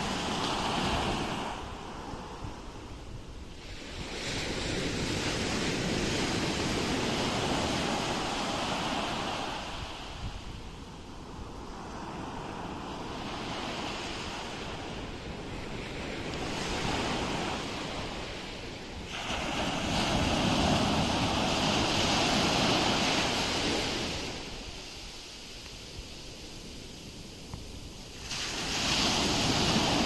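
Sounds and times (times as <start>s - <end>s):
ocean waves breaking on shore: 0.0s - 30.0s.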